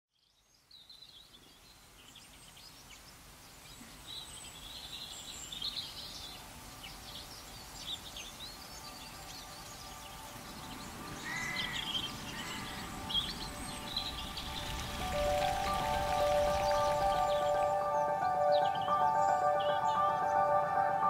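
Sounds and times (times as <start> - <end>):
birds chirping and trilling: 0.1 - 21.0
outdoor background hiss: 0.1 - 21.0.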